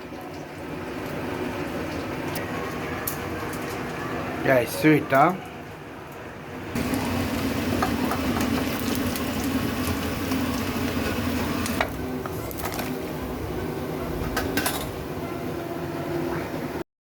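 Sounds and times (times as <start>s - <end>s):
steady mechanical hum: 0.0s - 16.8s.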